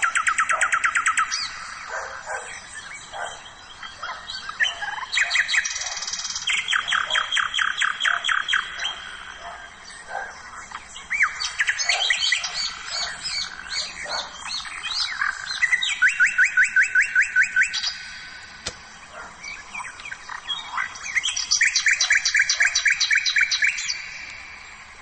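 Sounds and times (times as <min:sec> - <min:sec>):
songbirds chirping and singing: 0:00.0 - 0:25.0.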